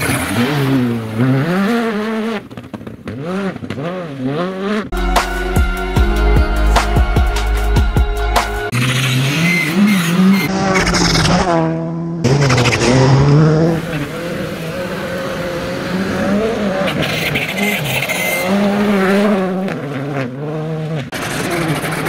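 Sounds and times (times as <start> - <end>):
rally car engines revving past: 0.0 - 4.9, 8.7 - 22.0.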